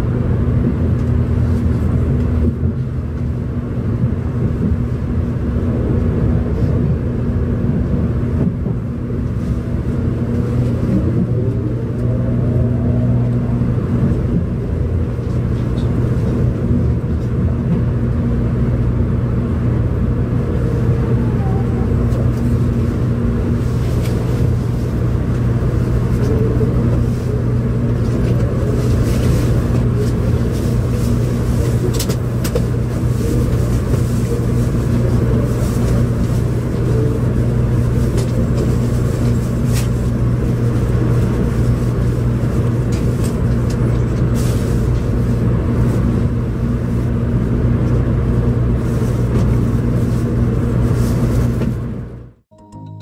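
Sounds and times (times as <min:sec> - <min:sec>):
train interior low hum: 0:00.0 - 0:53.0.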